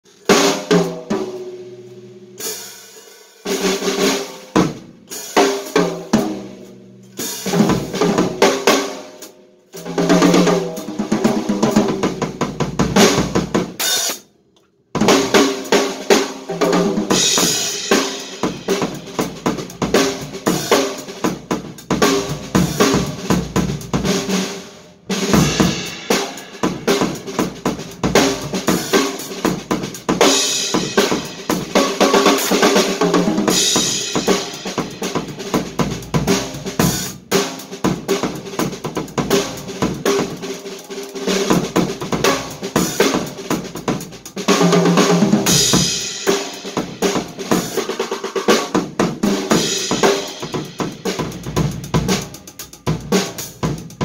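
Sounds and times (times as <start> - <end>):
drum kit played with sticks: 0.0 - 54.0
cymbals and hi-hat: 2.3 - 14.3, 15.0 - 54.0.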